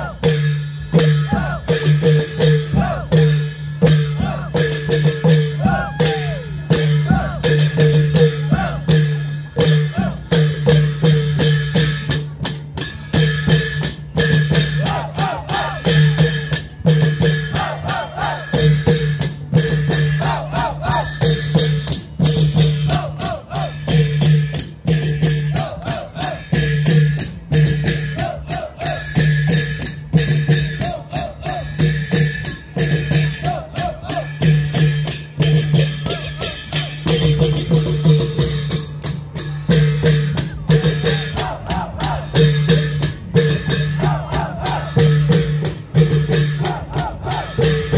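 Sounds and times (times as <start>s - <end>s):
long drum ensemble playing: 0.0s - 47.9s.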